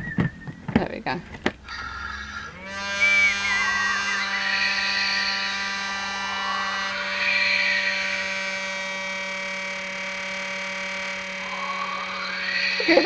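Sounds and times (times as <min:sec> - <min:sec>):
electronic droning chord: 0:01.6 - 0:13.0
shimmering electronic swells: 0:01.7 - 0:13.0.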